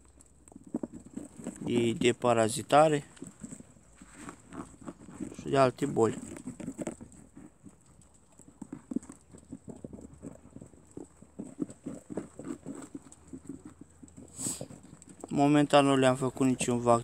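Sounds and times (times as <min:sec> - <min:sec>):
rabbits chewing carrot: 0:00.0 - 0:17.0.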